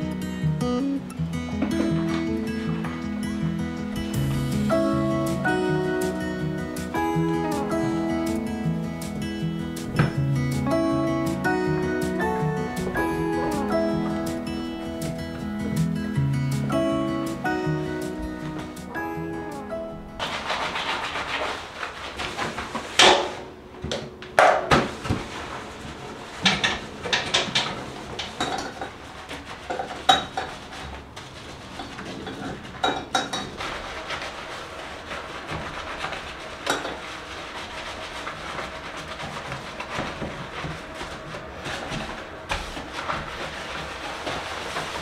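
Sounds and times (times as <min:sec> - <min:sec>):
scrub mitt rubbing bathtub: 0:01.5 - 0:45.0.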